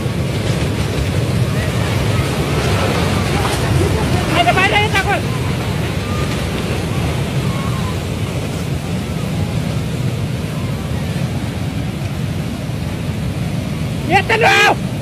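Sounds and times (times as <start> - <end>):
landslide rock and debris roar: 0.0 - 15.0.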